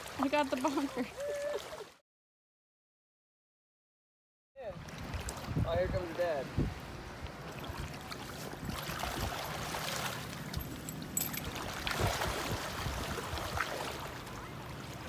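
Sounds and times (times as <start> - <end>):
wading splashes in river water: 0.0 - 2.0, 4.8 - 15.0.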